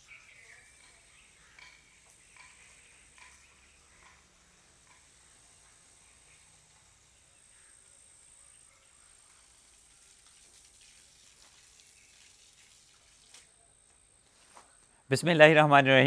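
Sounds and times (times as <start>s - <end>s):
water trickling from hose: 0.0s - 13.6s.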